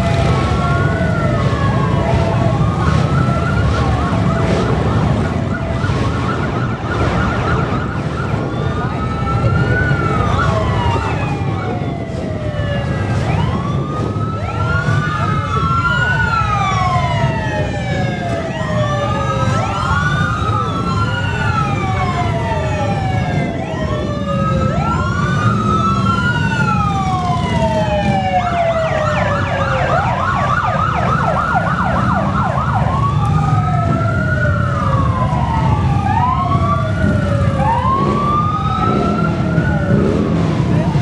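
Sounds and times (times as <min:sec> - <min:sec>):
motorcycle engines rumbling: 0:00.0 - 0:41.0
siren yelp: 0:00.0 - 0:41.0
sirens wailing: 0:00.0 - 0:41.0.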